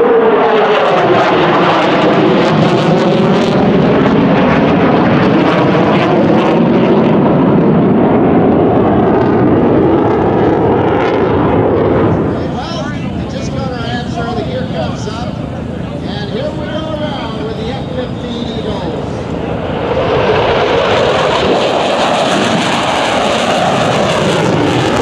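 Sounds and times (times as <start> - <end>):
jet engines roaring overhead: 0.0 - 25.0.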